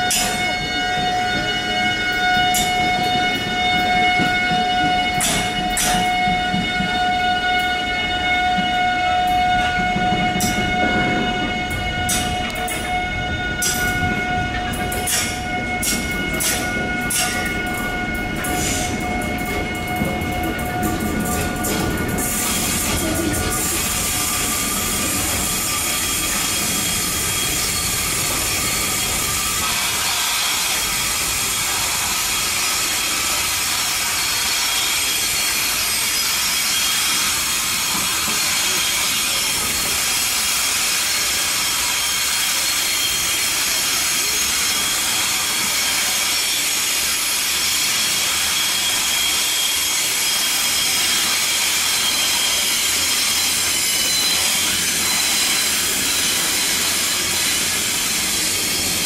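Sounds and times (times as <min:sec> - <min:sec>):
steam hissing: 0:11.7 - 0:59.0.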